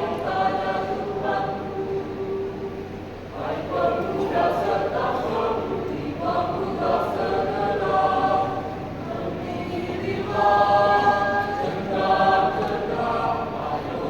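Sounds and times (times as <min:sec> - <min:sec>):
youth choir singing: 0:00.0 - 0:14.0.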